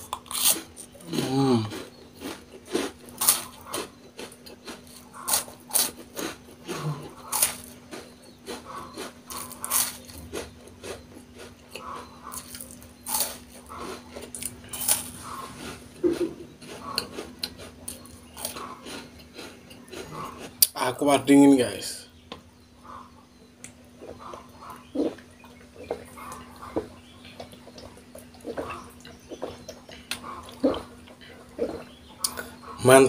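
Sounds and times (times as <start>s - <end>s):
crunchy cookie chewing: 0.0s - 21.3s, 22.4s - 33.0s
faint steady hum: 0.0s - 33.0s.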